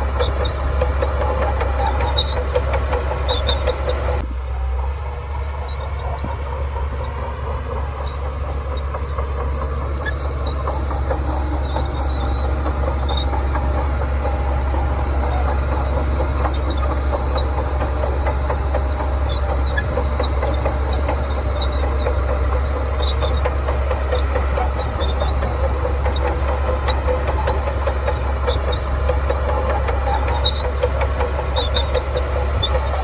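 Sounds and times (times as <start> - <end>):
steel tracks clattering: 0.0 - 4.2, 5.1 - 33.0
bulldozer diesel engine droning: 0.0 - 33.0.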